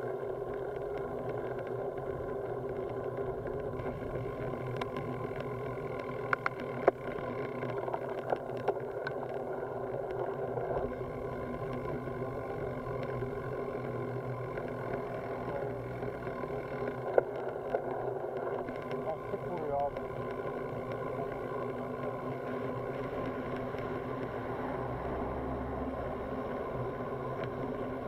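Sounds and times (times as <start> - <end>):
bicycle riding on tarmac: 0.0 - 28.0.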